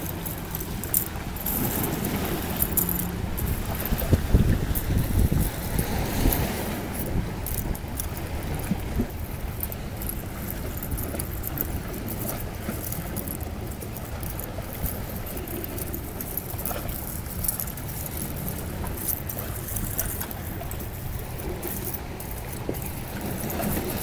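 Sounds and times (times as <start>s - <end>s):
light scratchy ticks: 0.0s - 24.0s
small waves on pebbly shore: 0.0s - 24.0s
wind rumble on microphone: 0.0s - 24.0s.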